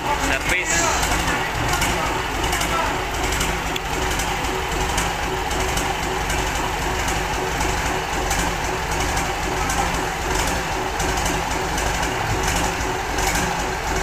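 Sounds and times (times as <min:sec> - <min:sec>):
diesel engine running: 0:00.0 - 0:14.0
radiator fan turning: 0:00.0 - 0:14.0.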